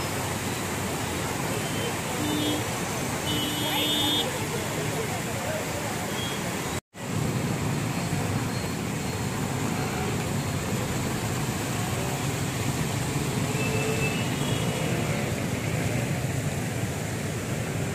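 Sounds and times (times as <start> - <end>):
traffic through water: 0.0 - 17.9.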